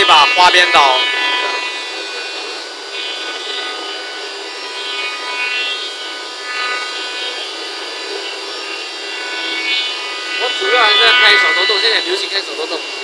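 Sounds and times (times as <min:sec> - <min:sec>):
spindle whine: 0:00.0 - 0:13.0
wood routing rasp: 0:00.0 - 0:13.0.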